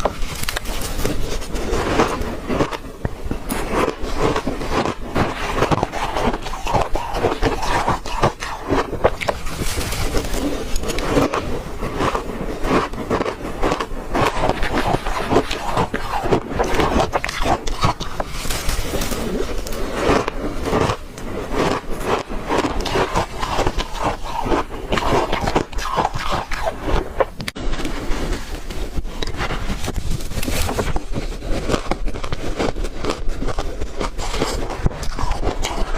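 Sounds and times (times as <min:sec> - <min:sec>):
ice being chewed: 0:00.0 - 0:27.6, 0:28.7 - 0:35.9.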